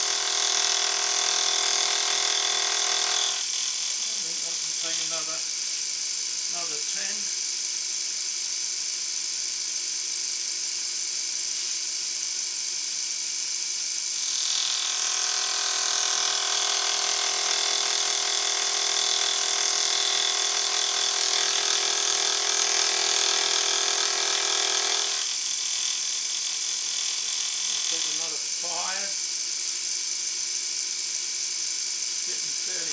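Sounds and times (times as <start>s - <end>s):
milling machine running: 0.0s - 8.3s, 9.5s - 32.9s
cutter whining on metal: 0.0s - 32.9s.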